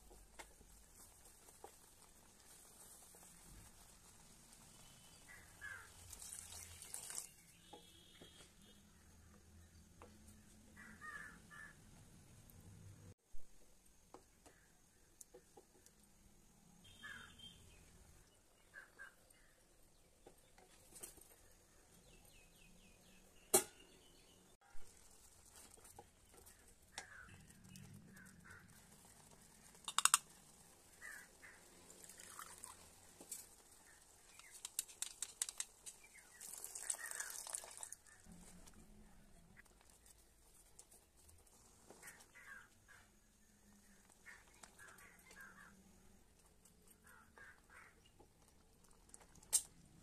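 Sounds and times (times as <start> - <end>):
birds calling faintly: 1.7 - 13.1, 13.8 - 50.0.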